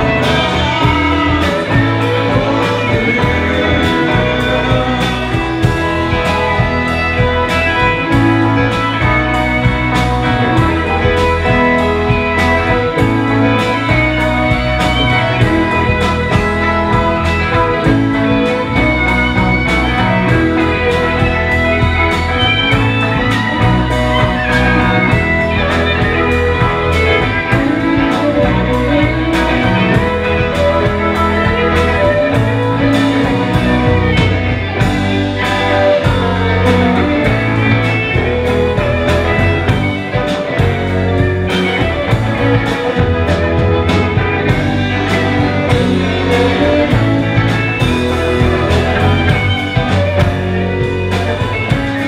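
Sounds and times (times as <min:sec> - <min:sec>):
drum beat: 0:00.0 - 0:52.0
electric guitar: 0:00.0 - 0:52.0
keyboards: 0:00.0 - 0:52.0
violin: 0:00.0 - 0:52.0.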